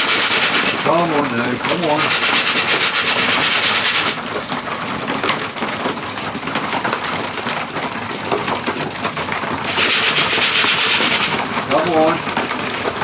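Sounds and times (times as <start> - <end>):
pigeons flapping wings: 0.0 - 7.9, 8.5 - 13.0.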